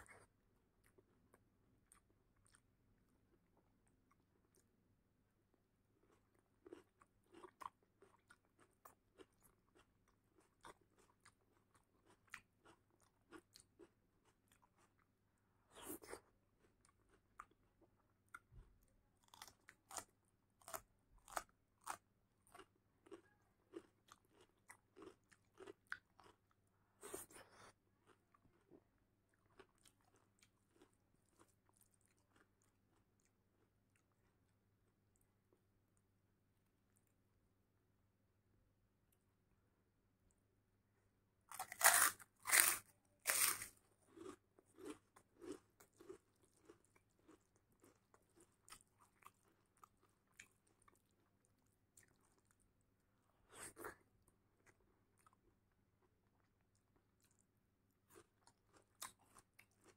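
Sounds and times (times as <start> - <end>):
person chewing food: 0.0 - 37.5, 41.4 - 59.9.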